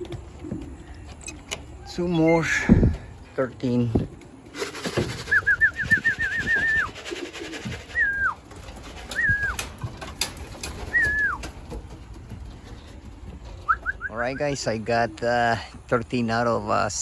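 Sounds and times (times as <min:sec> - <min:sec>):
pigeons chirping: 0:00.0 - 0:17.0.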